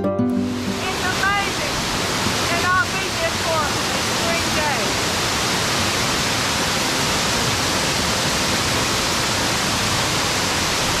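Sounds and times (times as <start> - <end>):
creek water rushing: 0.3 - 11.0.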